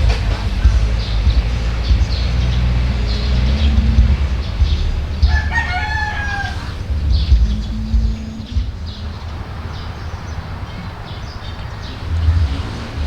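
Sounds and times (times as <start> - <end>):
low rumble: 0.0 - 10.8
bird's long falling call: 0.5 - 12.3.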